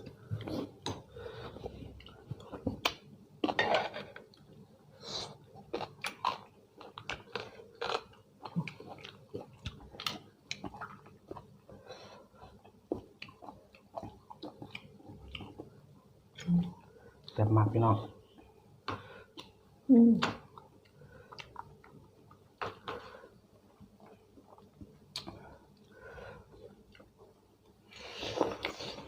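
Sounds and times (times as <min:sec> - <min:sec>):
man chewing and crunching food: 0:00.0 - 0:17.4, 0:20.4 - 0:29.0.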